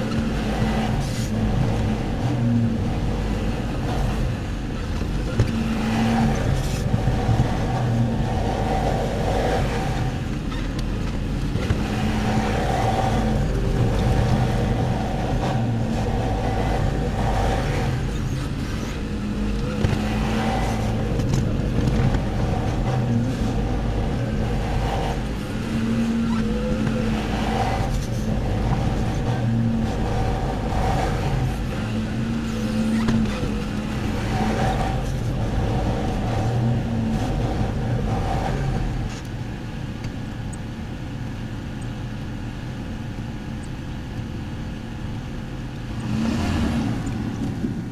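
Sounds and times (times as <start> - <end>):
loader engine revving: 0.0 - 39.2, 45.8 - 47.9.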